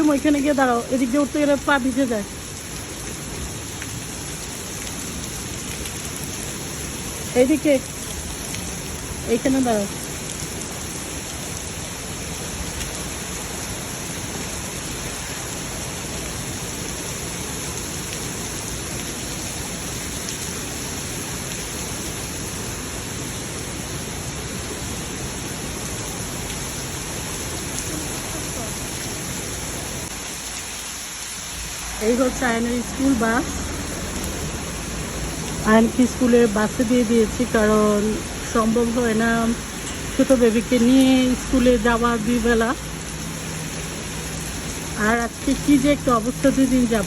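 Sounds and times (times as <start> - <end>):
heavy rain pouring: 0.0 - 47.0.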